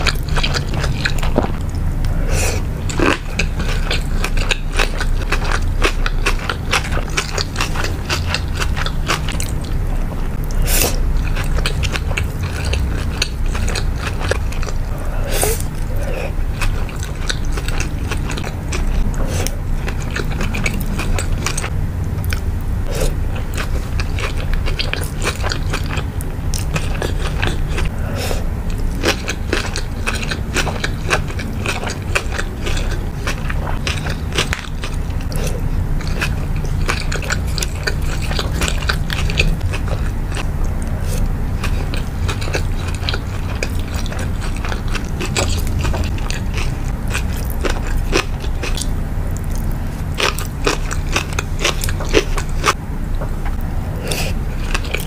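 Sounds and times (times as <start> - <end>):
crunchy chewing: 0.0 - 55.0
steady low rumble: 0.0 - 55.0.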